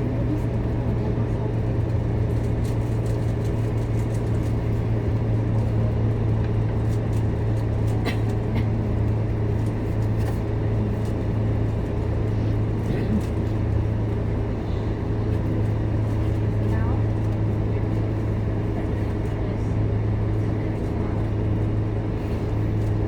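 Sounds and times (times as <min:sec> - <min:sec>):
bus diesel engine running: 0:00.0 - 0:23.0
road noise: 0:00.0 - 0:23.0.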